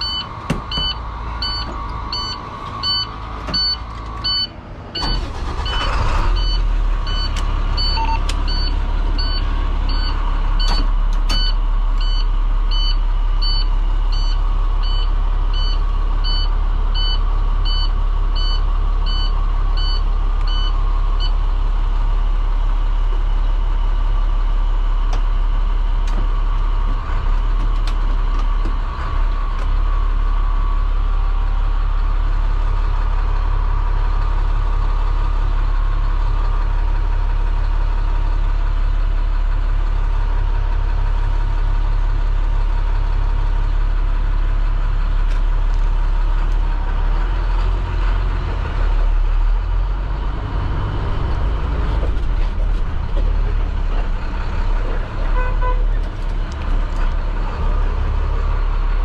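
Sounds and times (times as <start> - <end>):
diesel bus engine idling: 0.0 - 59.0.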